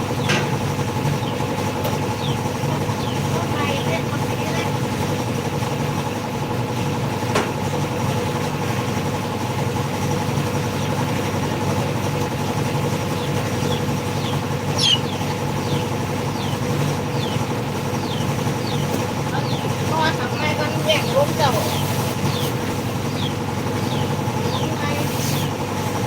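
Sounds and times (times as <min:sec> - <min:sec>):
machine humming: 0:00.0 - 0:26.0.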